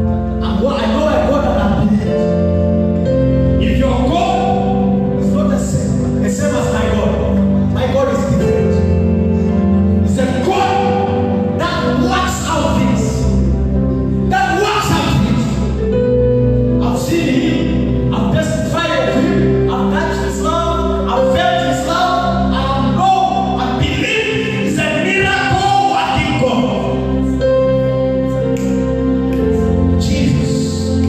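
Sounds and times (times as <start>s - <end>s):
held instrumental accompaniment: 0.0s - 31.0s.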